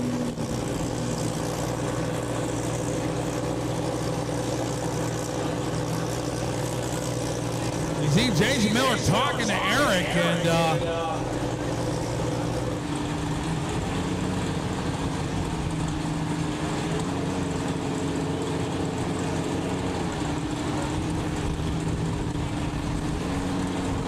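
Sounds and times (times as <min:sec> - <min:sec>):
drag car engines idling: 0:00.0 - 0:24.0.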